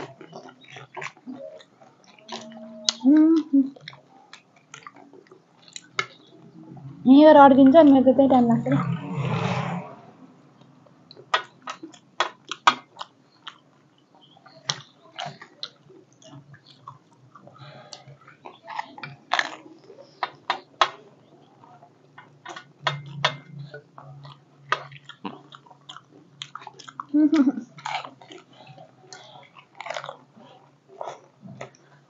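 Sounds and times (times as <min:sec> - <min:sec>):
crunching of crisp food bitten: 0:00.0 - 0:06.4, 0:10.6 - 0:22.7, 0:24.0 - 0:32.0.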